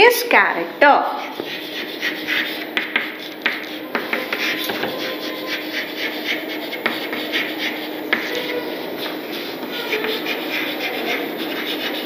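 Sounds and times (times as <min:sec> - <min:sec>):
chalk scratching on chalkboard: 0:01.0 - 0:12.0
chalk tapping board: 0:01.1 - 0:12.0.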